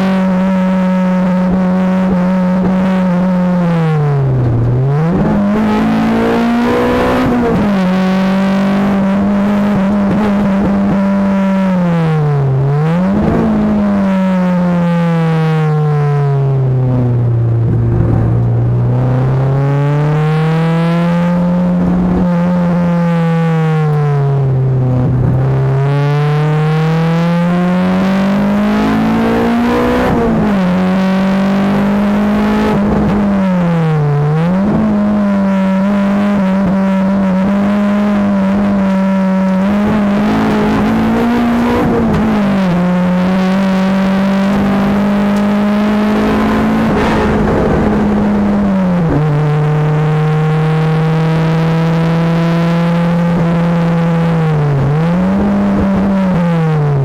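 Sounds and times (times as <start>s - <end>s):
car engine under hard driving: 0.0s - 57.0s.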